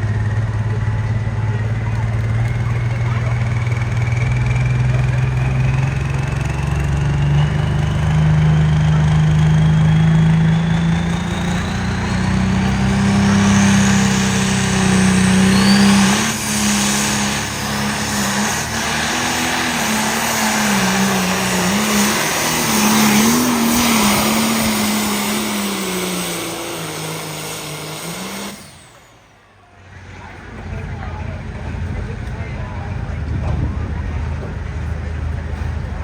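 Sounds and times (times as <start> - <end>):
engine at full throttle: 0.0 - 36.0.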